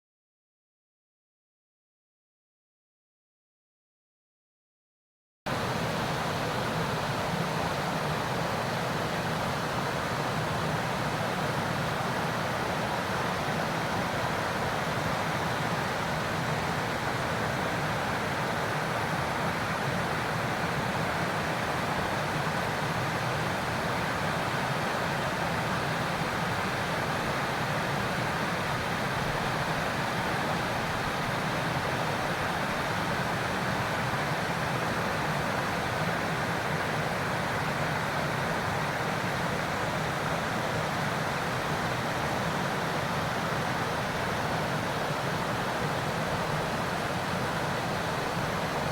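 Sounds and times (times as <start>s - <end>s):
waterfall rushing into pool: 5.5s - 48.9s.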